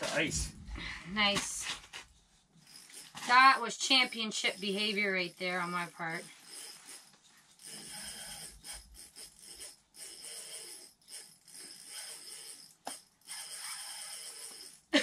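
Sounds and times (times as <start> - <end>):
fishing reel whirring: 2.6 - 15.0.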